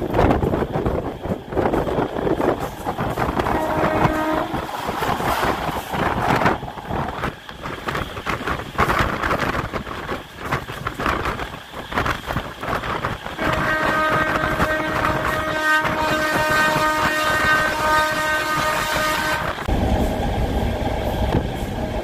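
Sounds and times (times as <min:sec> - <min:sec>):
train running noise: 0:00.0 - 0:22.0
wind buffeting microphone: 0:00.0 - 0:22.0.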